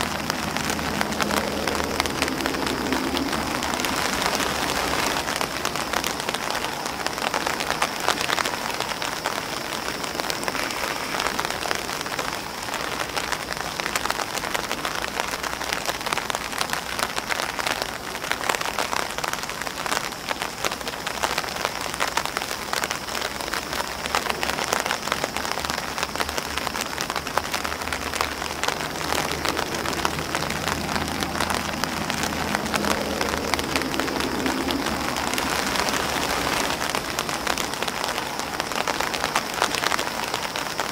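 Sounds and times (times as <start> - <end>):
rain on an umbrella: 0.0 - 40.9
rain on grass: 0.0 - 40.9.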